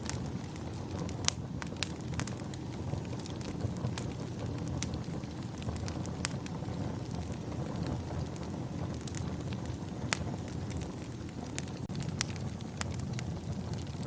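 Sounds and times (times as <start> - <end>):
low rumble of wind: 0.0 - 14.0
wood fire crackling: 0.0 - 14.0.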